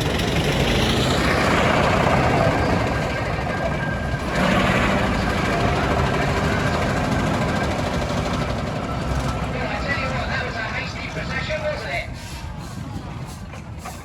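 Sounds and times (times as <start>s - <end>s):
steam engines running: 0.0s - 14.0s.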